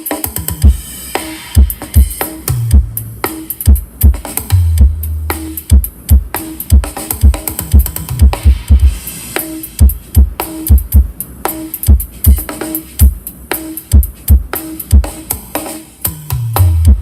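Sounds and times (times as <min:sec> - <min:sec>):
drum machine bass drum: 0:00.0 - 0:17.0
ticking cymbals: 0:00.0 - 0:17.0.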